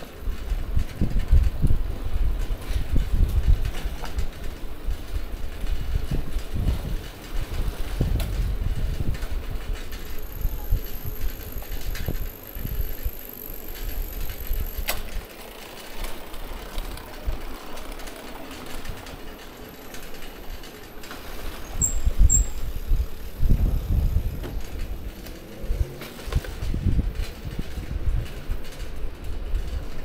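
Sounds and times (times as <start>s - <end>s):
bicycle rumbling and rattling: 0.0s - 30.0s.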